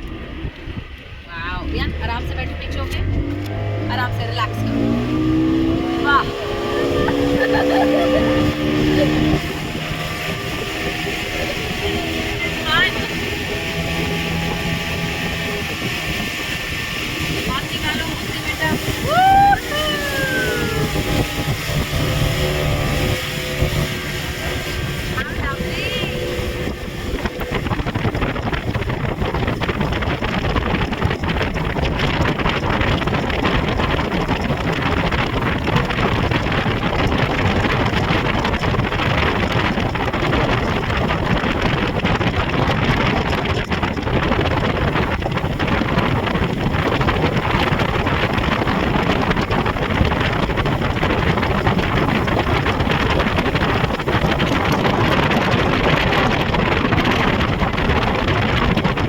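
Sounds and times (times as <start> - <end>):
speedboat engine roar: 0.0 - 59.0
wind buffeting microphone: 0.0 - 59.0.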